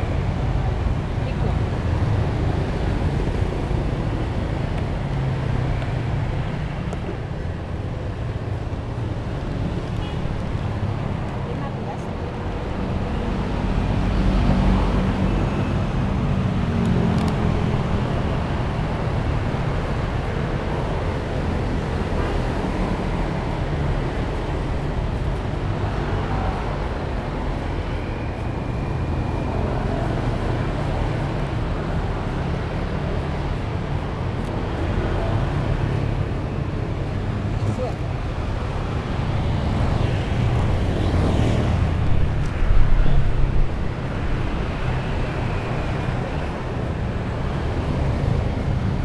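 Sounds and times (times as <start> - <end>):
low traffic rumble: 0.0 - 49.0
motorbikes and cars passing: 0.0 - 49.0.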